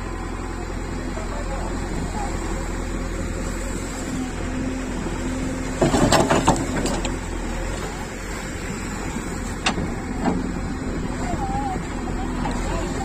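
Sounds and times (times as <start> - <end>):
diesel engine running: 0.0 - 13.0
backhoe digging wet sand: 1.4 - 13.0.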